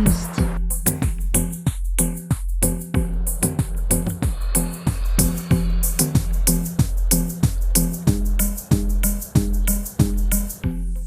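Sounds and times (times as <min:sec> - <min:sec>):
electronic music with bass line: 0:00.0 - 0:11.0.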